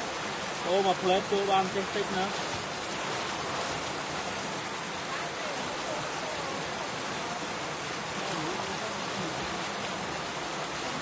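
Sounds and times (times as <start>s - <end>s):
fast water rushing: 0.0s - 11.0s.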